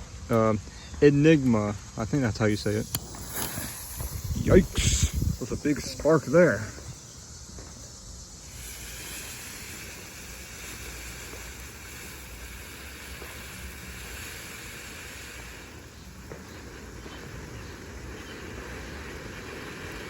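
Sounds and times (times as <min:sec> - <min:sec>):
ground firework hissing: 0:00.0 - 0:20.0.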